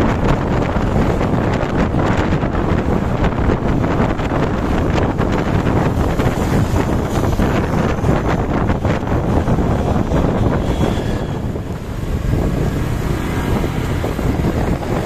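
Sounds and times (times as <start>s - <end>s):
road vehicle rumble: 0.0s - 15.0s
wind buffeting microphone: 0.0s - 15.0s.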